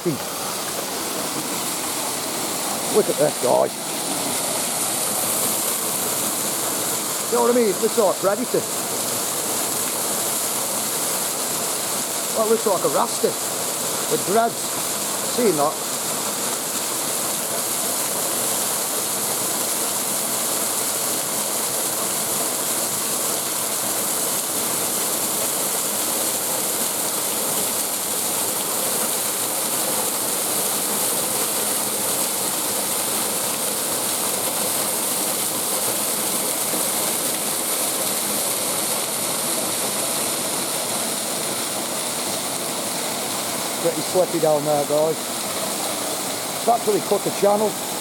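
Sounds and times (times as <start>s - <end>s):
waterfall roaring: 0.0s - 48.0s.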